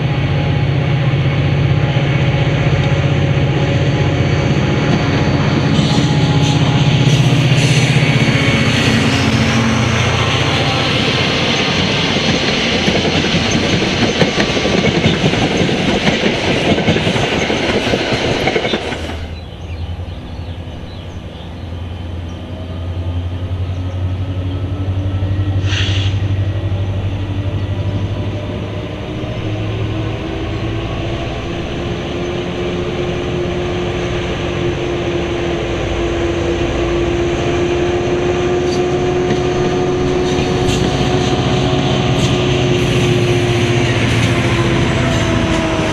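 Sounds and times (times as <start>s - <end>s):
locomotive humming and whining: 0.0s - 45.9s
train wheel and rail noise: 0.0s - 45.9s.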